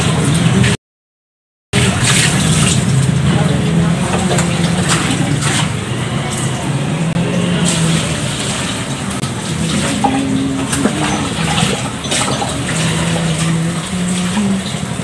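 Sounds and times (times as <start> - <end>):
low hum: 1.8 - 15.0
tap water running: 1.8 - 15.0.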